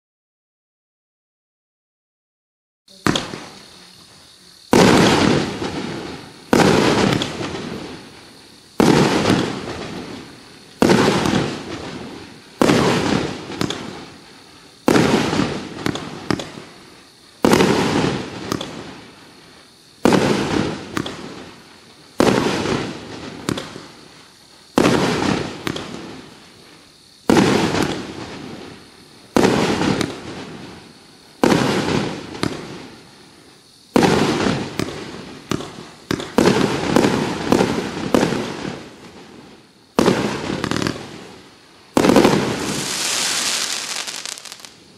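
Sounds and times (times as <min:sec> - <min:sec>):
firework bangs with crackle: 0:02.9 - 0:44.9.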